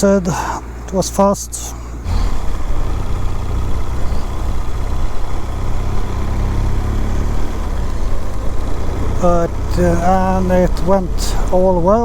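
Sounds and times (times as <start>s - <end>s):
motorcycle engine running: 2.0s - 12.0s.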